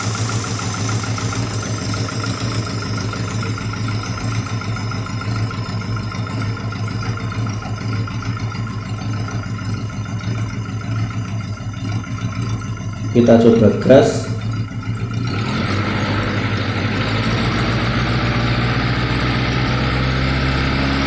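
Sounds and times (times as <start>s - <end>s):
engine idling roughly: 0.0s - 21.0s.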